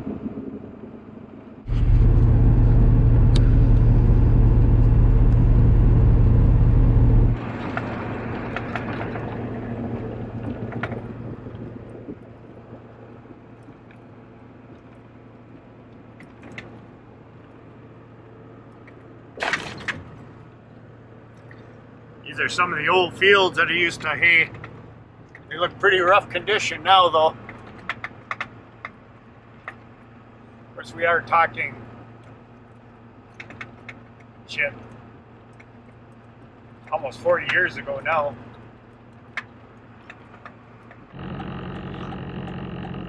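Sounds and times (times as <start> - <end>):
pickup truck low rumble: 0.0 - 43.0
road drone: 0.0 - 43.0.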